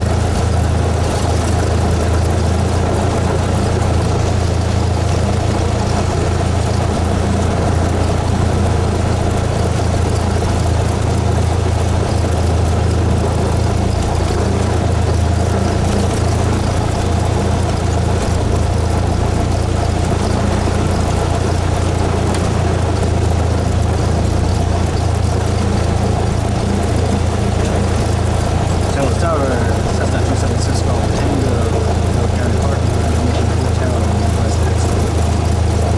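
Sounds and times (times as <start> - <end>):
airplane engine and propeller drone: 0.0 - 35.9.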